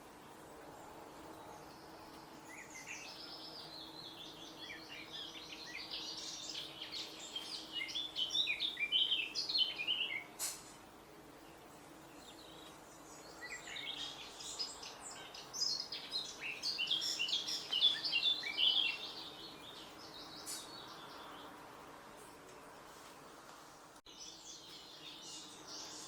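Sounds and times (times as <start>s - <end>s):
birds chirping and trilling: 0.3s - 22.9s, 24.1s - 26.0s.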